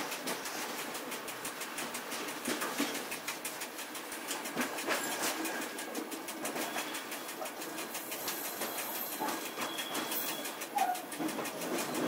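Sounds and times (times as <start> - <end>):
quick clicks and rattles: 0.0 - 12.0
train wheels rumbling on rails: 0.0 - 12.0.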